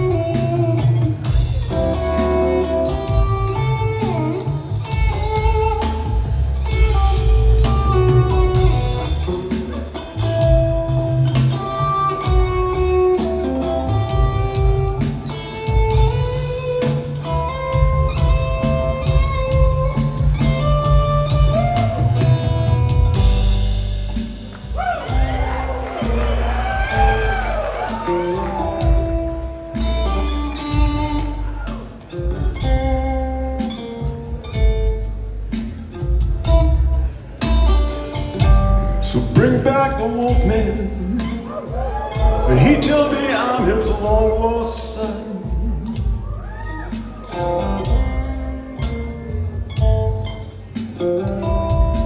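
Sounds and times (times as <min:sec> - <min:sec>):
bass guitar: 0:00.0 - 0:52.0
drum kit: 0:00.0 - 0:52.0
electric guitar: 0:00.0 - 0:52.0.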